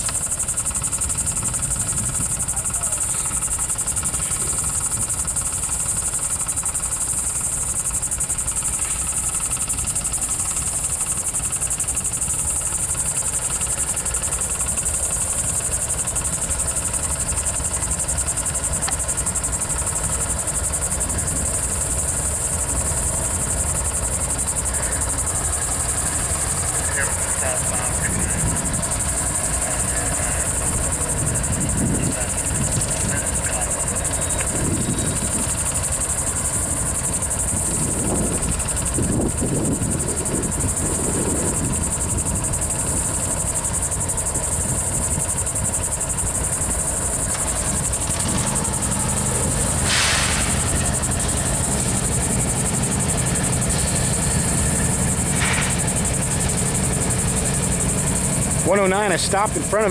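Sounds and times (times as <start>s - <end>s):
diesel locomotives rumbling: 0.0s - 59.9s
shrill insect buzz: 6.1s - 59.9s.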